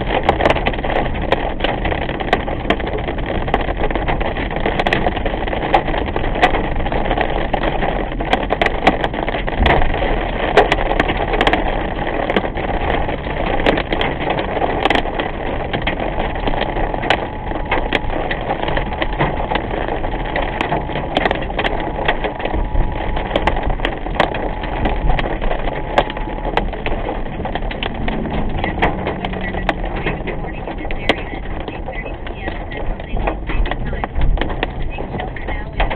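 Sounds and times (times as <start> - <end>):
rain on car windshield and roof: 0.0 - 35.9
tyre noise on wet road: 0.0 - 35.9.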